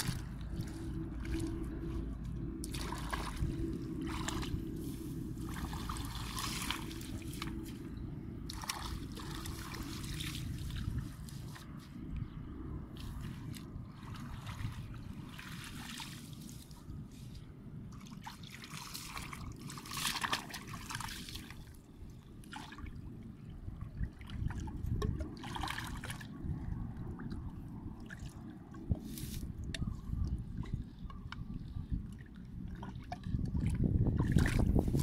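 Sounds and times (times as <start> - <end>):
shallow water splashing: 0.0 - 35.0
steady low rumble: 0.0 - 35.0.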